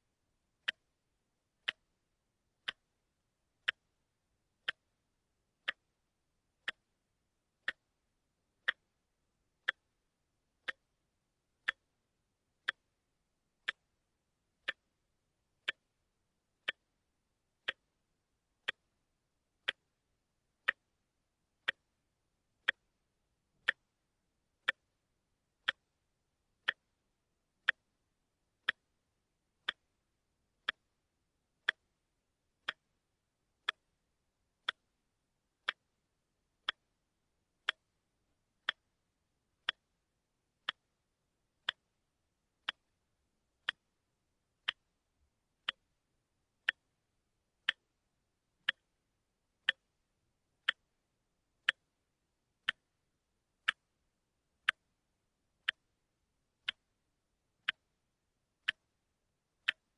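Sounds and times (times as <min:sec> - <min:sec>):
watch ticking: 0:00.4 - 0:47.0, 0:47.6 - 0:57.0, 0:57.6 - 0:58.0, 0:58.6 - 0:59.9.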